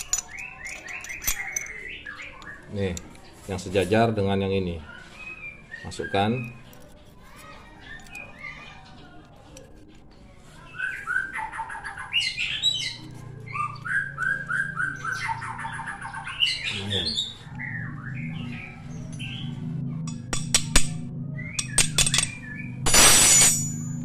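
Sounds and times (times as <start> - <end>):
songbird chirping: 0.0 - 20.3.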